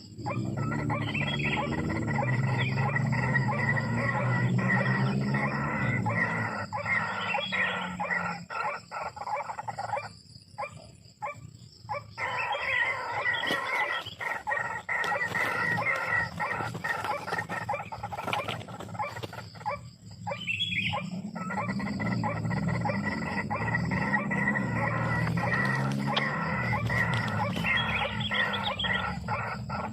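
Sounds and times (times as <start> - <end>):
waterhen calling harsh croaks: 0.0 - 10.1, 11.3 - 29.9.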